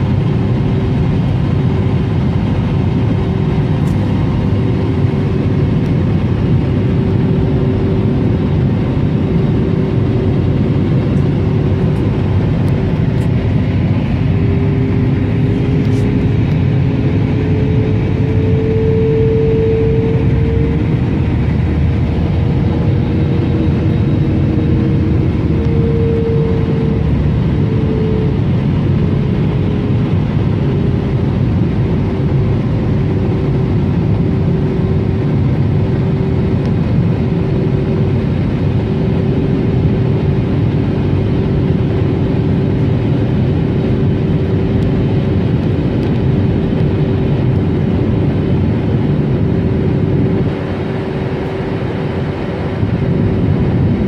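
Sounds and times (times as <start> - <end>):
jet engine cabin noise: 0.0 - 54.0.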